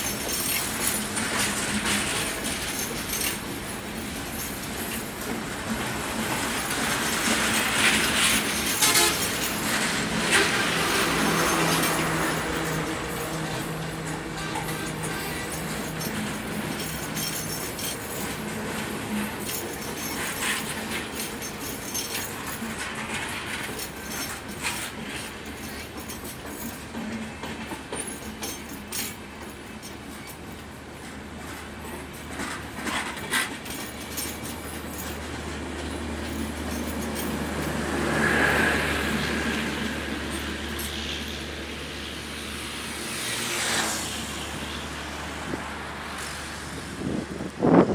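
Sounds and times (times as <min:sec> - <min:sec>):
train wheels clattering over rail joints: 0:00.0 - 0:44.7
road and wind noise: 0:00.0 - 0:47.9.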